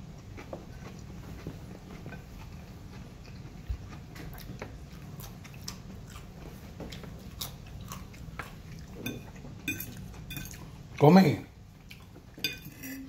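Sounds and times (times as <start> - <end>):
person chewing crunchy chips: 0.2 - 10.8.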